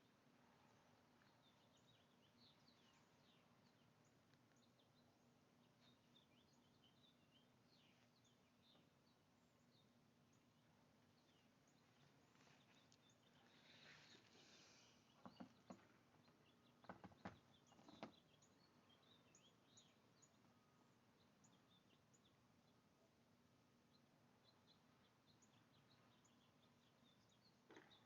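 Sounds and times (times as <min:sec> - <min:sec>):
faint bird chirps: 0:00.0 - 0:23.2, 0:23.8 - 0:28.0.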